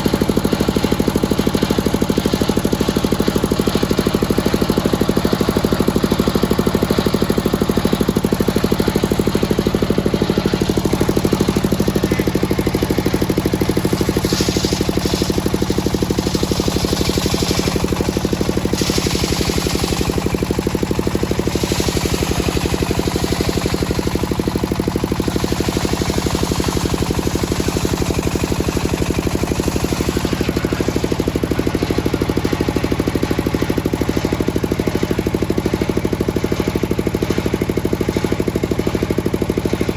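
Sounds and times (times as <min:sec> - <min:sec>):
sawmill engine pulsing: 0:00.0 - 0:39.9.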